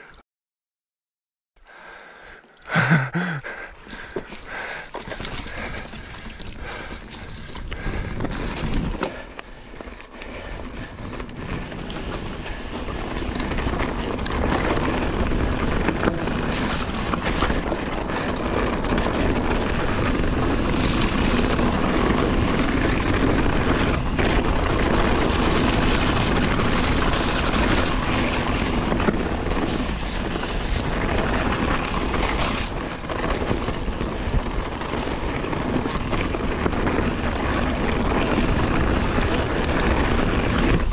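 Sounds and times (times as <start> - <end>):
bike knocking and rattling: 3.2 - 40.9.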